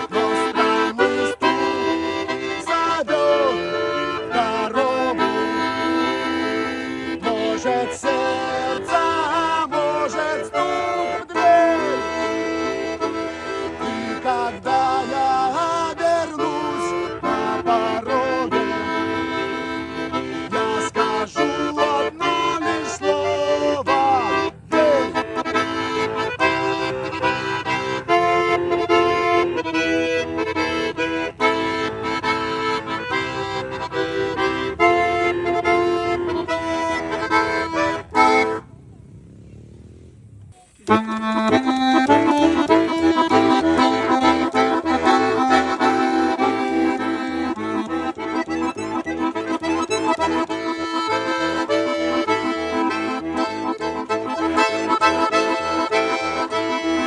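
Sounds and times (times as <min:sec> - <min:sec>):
button accordion playing: 0:00.0 - 0:38.7, 0:40.7 - 0:57.0.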